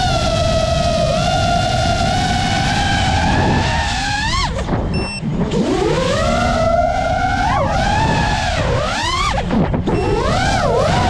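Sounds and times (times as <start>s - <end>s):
low rushing wind: 0.0s - 11.0s
quadcopter motors whining: 0.0s - 11.0s.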